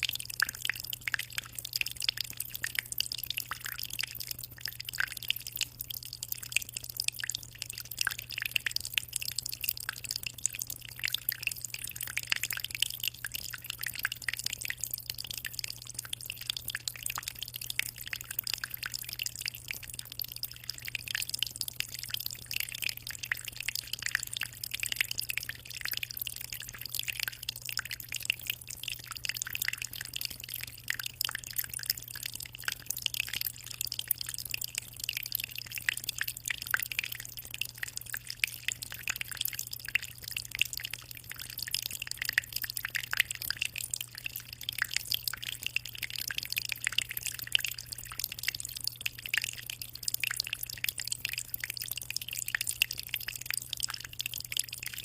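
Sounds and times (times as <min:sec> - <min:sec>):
aquarium water trickling and splashing: 0:00.0 - 0:55.0.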